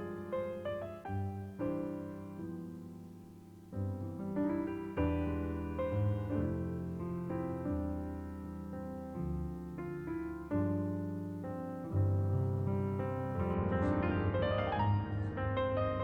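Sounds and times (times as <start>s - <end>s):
calm piano music: 0.0s - 16.0s.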